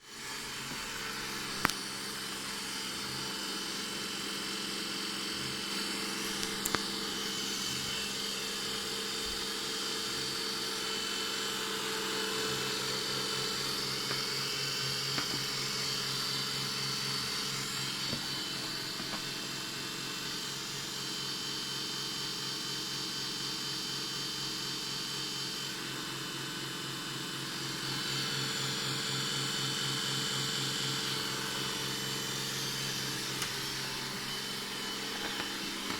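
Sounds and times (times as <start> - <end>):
robot vacuum humming and whining: 0.0 - 35.9.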